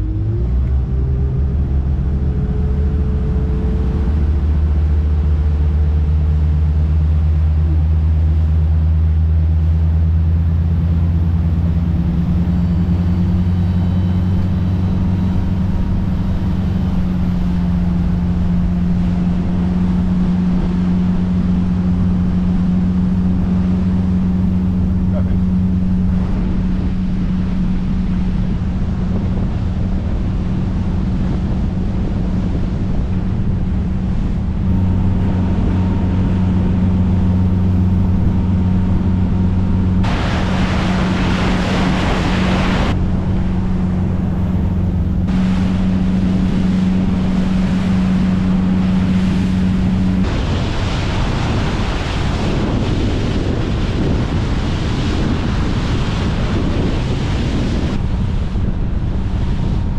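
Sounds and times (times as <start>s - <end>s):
motor boat engine drone: 0.0s - 59.9s
water rushing off hull: 0.0s - 59.9s
wind on microphone: 0.0s - 59.9s.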